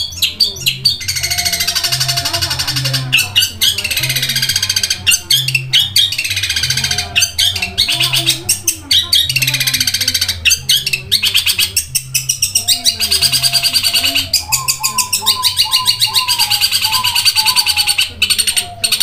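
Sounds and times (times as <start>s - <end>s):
bird chattering song: 0.0s - 19.0s.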